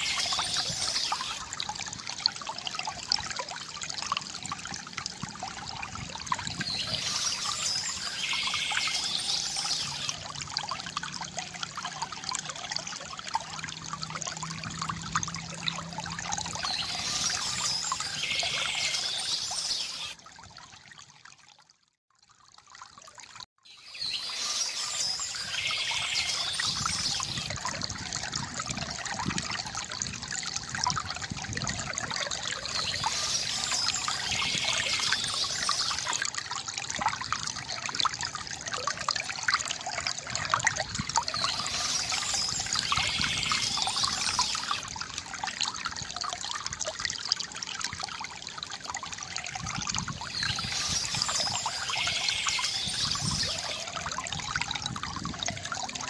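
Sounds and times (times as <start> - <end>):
fountain water trickling and splashing: 0.0 - 56.0.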